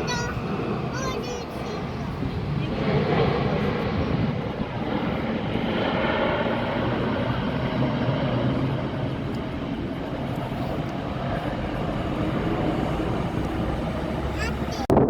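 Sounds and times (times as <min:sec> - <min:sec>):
jet airliner engines rumbling: 0:00.0 - 0:15.0.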